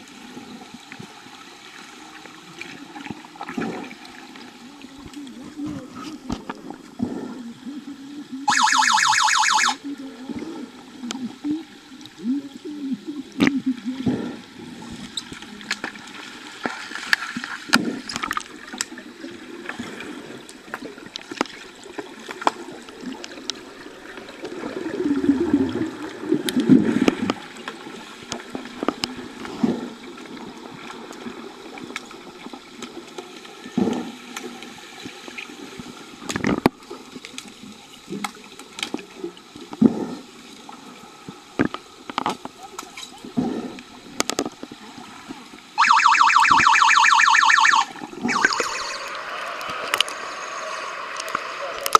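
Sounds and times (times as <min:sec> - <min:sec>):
bubbling and churning water: 0:00.0 - 0:51.9
muffled underwater wash: 0:00.0 - 0:51.9.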